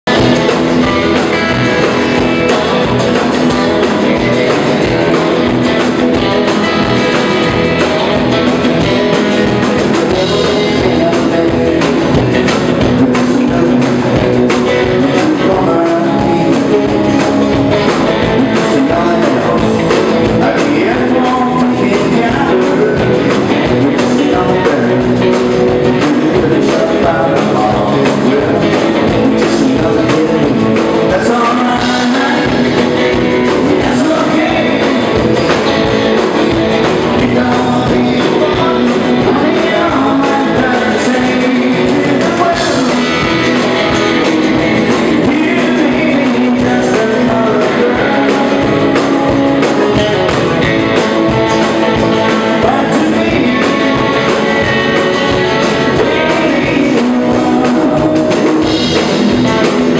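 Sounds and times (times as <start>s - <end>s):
drum kit beat: 0.0s - 59.9s
electric and acoustic guitars: 0.0s - 59.9s.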